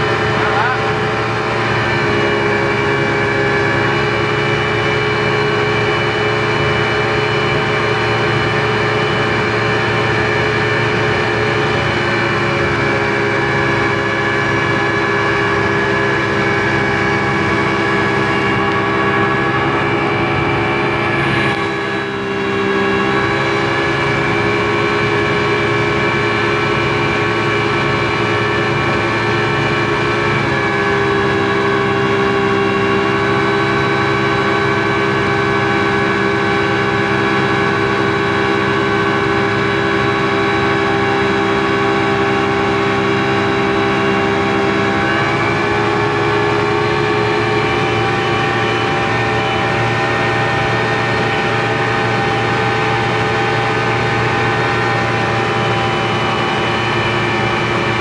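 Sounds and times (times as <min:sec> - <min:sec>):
speedboat engine running: 0:00.0 - 0:58.0.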